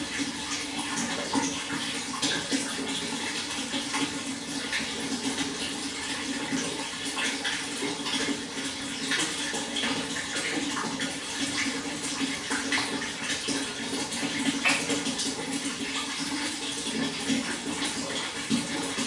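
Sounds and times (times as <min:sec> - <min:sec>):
water flowing and gurgling: 0:00.0 - 0:19.0.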